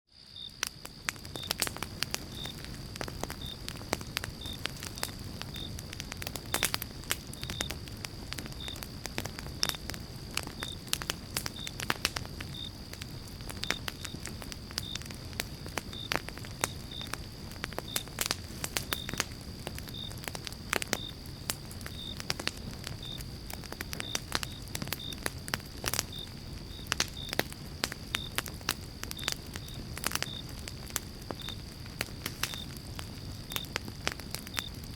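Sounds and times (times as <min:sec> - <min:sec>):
campfire low rumble: 0:00.2 - 0:34.9
fire crackles and pops: 0:00.2 - 0:34.9.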